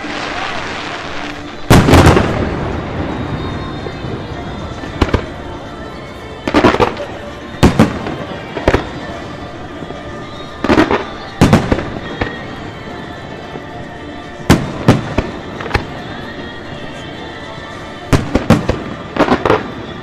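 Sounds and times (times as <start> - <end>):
fireworks exploding: 0.0 - 20.0
steady background din: 0.0 - 20.0.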